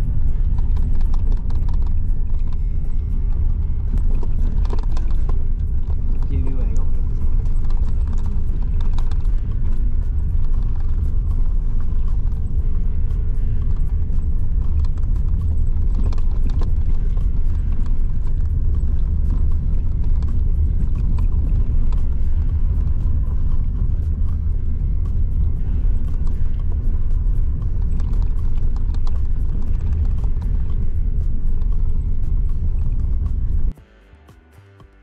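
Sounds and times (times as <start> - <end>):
car interior road rumble: 0.0 - 33.8
small clicks and rattles: 0.0 - 33.8.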